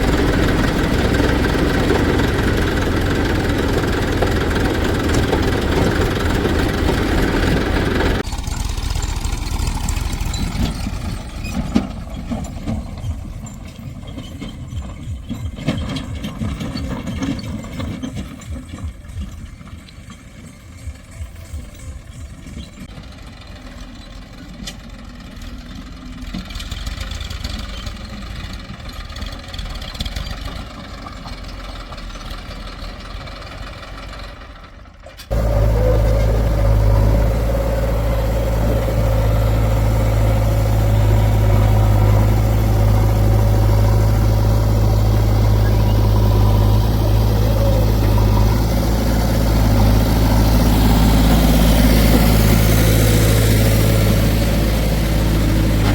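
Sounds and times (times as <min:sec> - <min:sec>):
diesel engine drone: 0:00.0 - 0:55.9.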